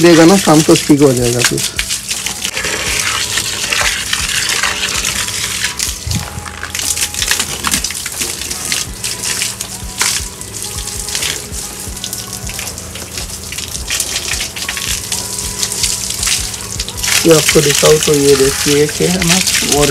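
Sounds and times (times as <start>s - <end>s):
water gushing and splashing: 0.0s - 19.9s.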